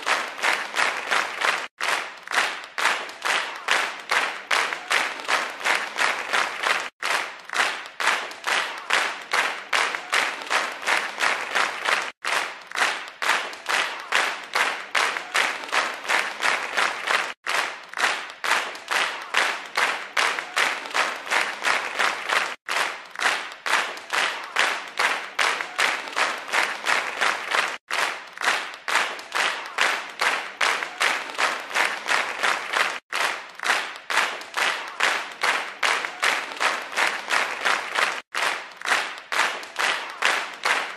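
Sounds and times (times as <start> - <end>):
many hands clapping rhythmically: 0.0 - 40.9.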